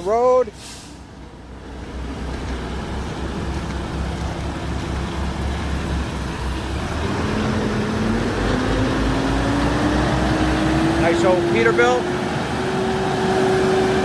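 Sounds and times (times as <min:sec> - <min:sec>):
diesel truck engine pulling away: 0:00.0 - 0:14.0.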